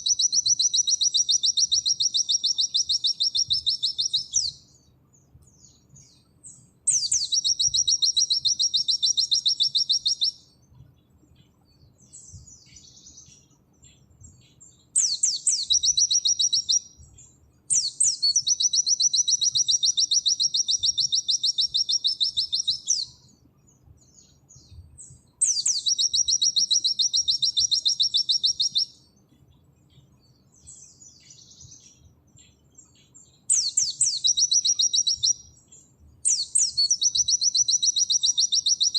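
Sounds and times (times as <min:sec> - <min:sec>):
bird singing high trilled phrases: 0:00.0 - 0:38.9
soft short bird chirps: 0:00.0 - 0:38.9.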